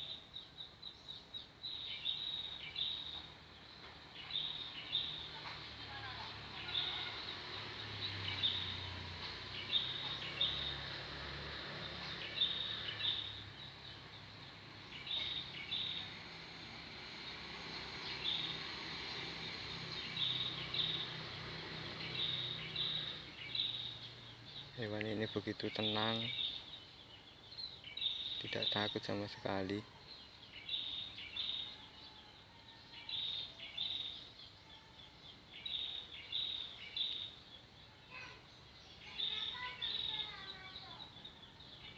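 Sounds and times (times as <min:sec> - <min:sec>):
bird chirping: 0:00.0 - 0:11.0, 0:11.7 - 0:41.9
faint outdoor background noise: 0:00.0 - 0:41.9.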